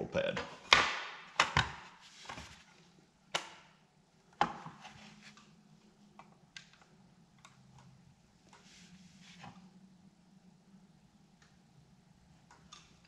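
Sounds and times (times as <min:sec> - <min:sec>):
low steady hum: 0:02.2 - 0:13.0.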